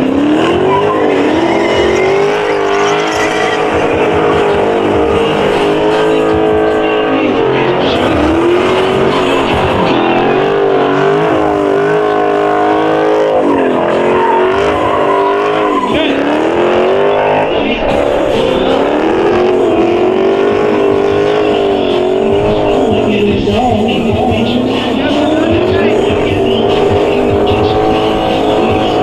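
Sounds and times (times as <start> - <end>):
car engine at high revs: 0.0 - 29.0.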